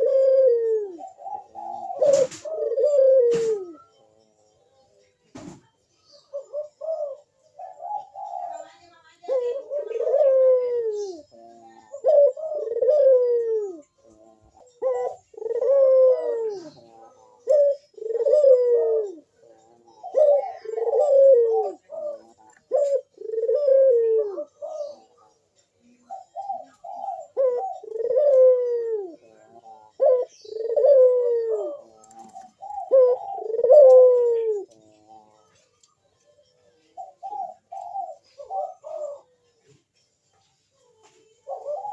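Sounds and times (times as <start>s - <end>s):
dove cooing: 0.0s - 4.2s, 6.2s - 39.8s, 40.8s - 41.9s.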